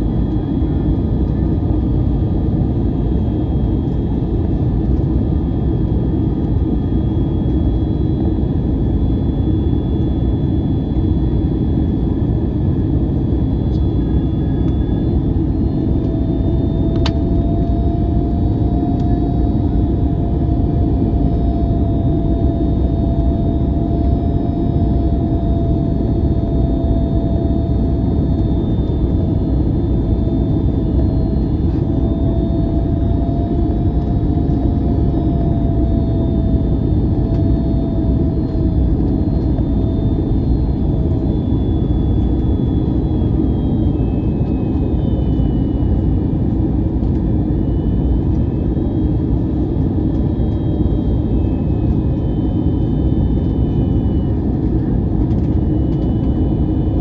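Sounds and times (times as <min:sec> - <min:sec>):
faint wavering whine: 0:00.0 - 0:57.0
jet engine and airflow roar: 0:00.0 - 0:57.0.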